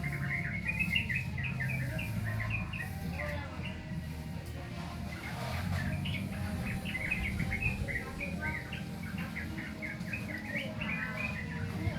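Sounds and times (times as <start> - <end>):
bird twittering: 0.0 - 4.0, 5.1 - 11.9.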